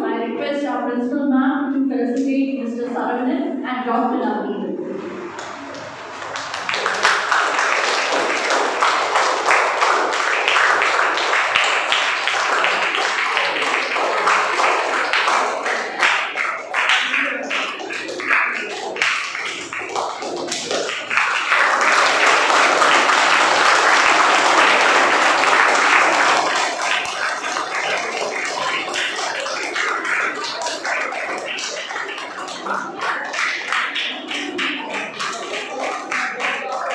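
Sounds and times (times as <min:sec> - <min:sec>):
children applauding: 0:05.0 - 0:36.9.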